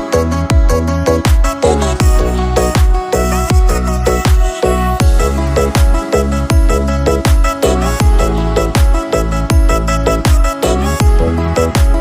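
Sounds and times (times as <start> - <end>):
heavy kick drum beat: 0.0 - 12.0.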